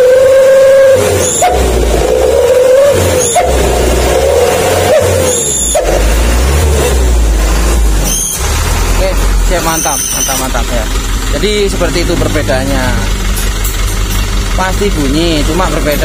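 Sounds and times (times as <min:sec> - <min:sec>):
exhaust whistle howling: 0:00.0 - 0:16.0
low diesel engine rumble: 0:00.0 - 0:16.0.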